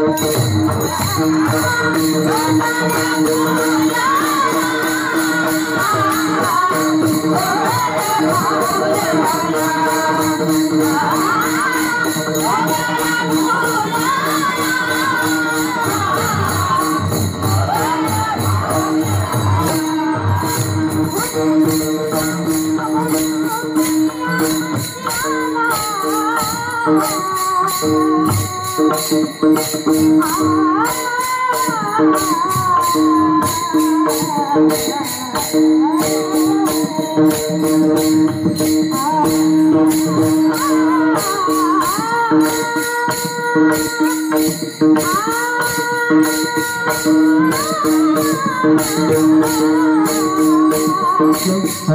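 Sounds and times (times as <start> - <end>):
small hand cymbals struck: 0.0 - 51.9
woman singing devotional song: 0.0 - 51.9.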